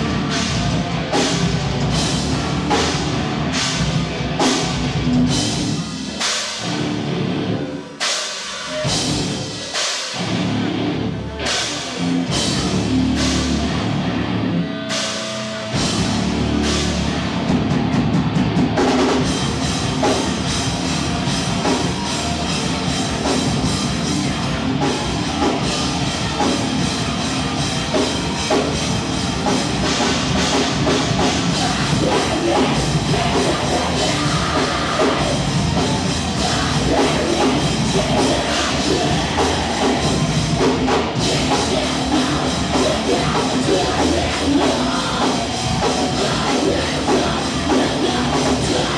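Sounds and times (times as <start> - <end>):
drum and cymbal hits: 0.0 - 7.0, 14.9 - 48.9
live rock band playing: 0.0 - 48.9.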